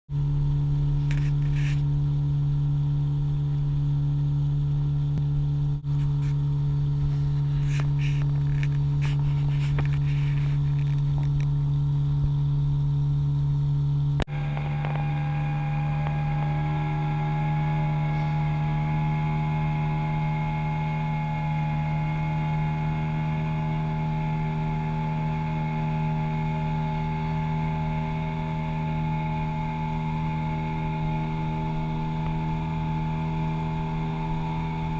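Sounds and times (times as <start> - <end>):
outboard motor droning: 0.1 - 34.9.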